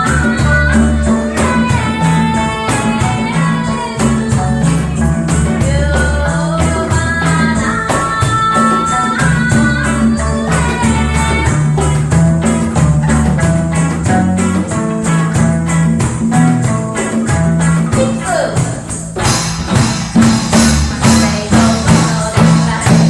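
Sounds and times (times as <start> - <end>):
plucked strings melody: 0.0 - 23.0
reggae band playing: 0.0 - 23.0
shaker or tambourine beat: 0.0 - 23.0
throbbing bass line: 0.0 - 23.0.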